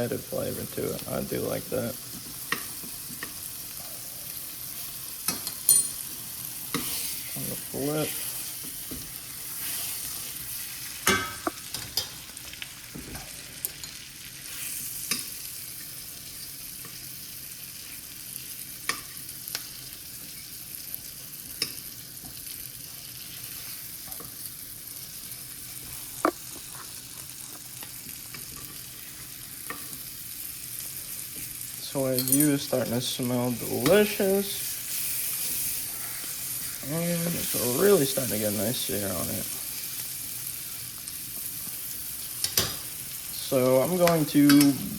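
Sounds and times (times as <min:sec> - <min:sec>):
steak sizzling in a pan: 0:00.0 - 0:44.9.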